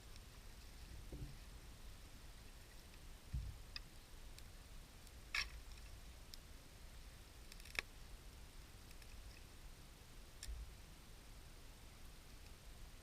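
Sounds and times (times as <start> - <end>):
bonfire crackling: 0.0 - 10.6.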